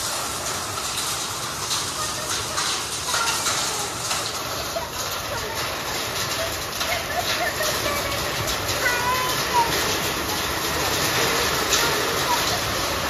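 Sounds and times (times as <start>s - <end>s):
heavy rain and hail on concrete: 0.0s - 13.0s.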